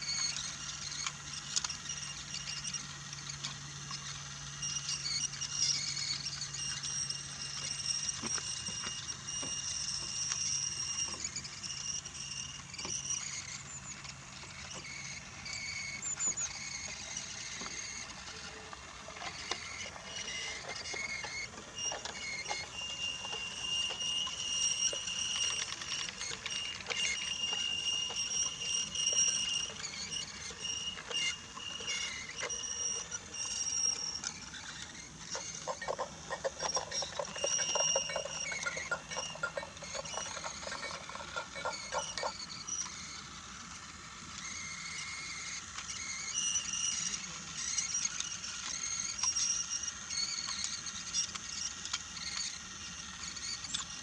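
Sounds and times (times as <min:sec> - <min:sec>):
toy train motor whine: 0:00.0 - 0:54.0
wheels clicking on wooden rails: 0:00.0 - 0:54.0.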